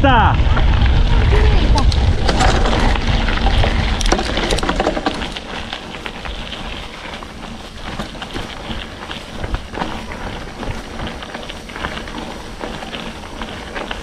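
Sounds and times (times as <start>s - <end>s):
bike clicks and rattles: 0.4s - 14.0s
tyres crunching on gravel: 0.4s - 14.0s.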